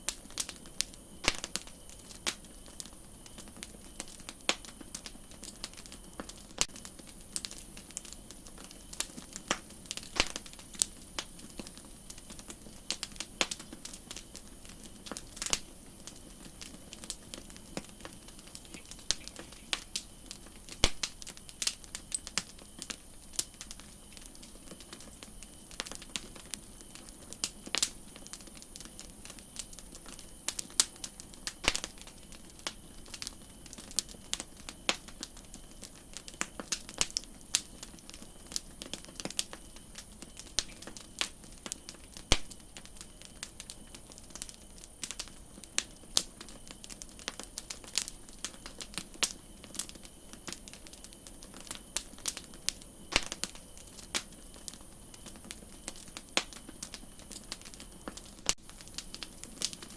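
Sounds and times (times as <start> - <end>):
campfire crackling: 0.0 - 59.9
faint steady high hiss: 0.0 - 59.9.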